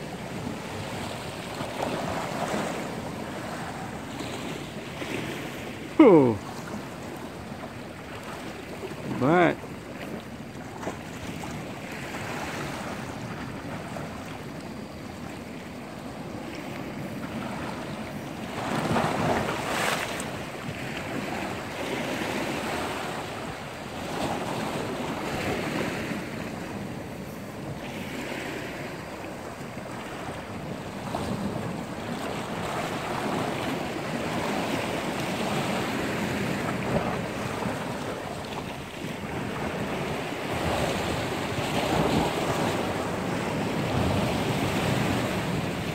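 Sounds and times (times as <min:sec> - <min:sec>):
waves washing against rocks: 0:00.0 - 0:14.5, 0:16.0 - 0:45.9.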